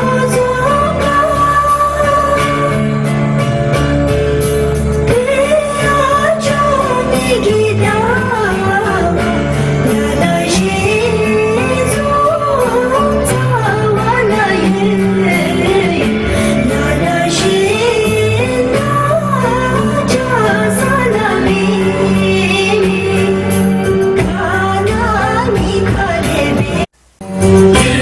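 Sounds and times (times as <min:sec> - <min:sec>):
song with singing and beat: 0:00.0 - 0:28.0.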